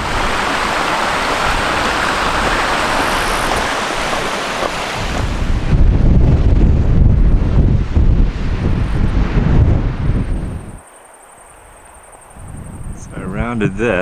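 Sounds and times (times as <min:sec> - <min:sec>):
strong wind rushing: 0:00.0 - 0:10.8, 0:12.3 - 0:14.0
wind buffeting microphone: 0:00.0 - 0:10.8, 0:12.2 - 0:14.0.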